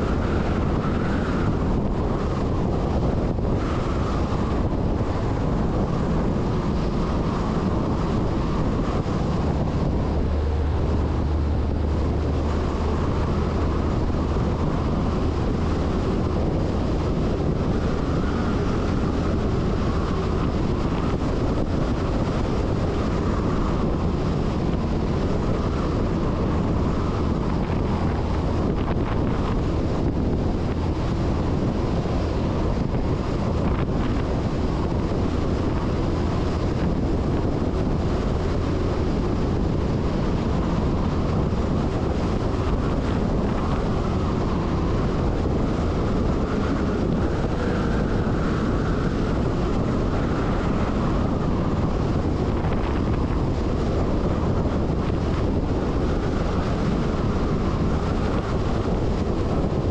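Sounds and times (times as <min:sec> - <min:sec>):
road noise: 0:00.0 - 0:59.9
truck engine: 0:00.0 - 0:59.9
wind rushing over microphone: 0:00.0 - 0:59.9.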